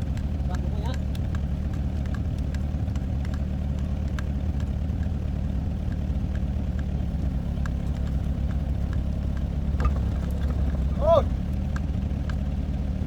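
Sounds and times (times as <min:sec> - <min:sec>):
diesel engine idling: 0:00.0 - 0:13.0
light scattered ticks: 0:00.0 - 0:13.0.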